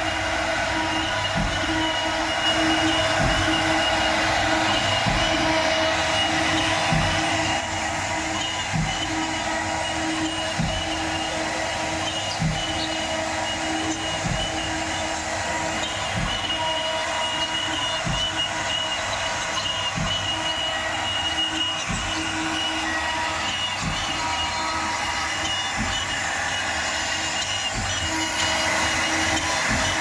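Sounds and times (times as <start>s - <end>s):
router spindle whine and hiss: 0.0s - 30.0s.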